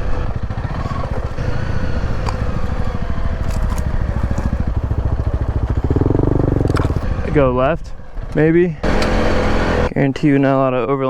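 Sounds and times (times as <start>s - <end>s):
motorcycle engine chugging: 0.0s - 10.1s.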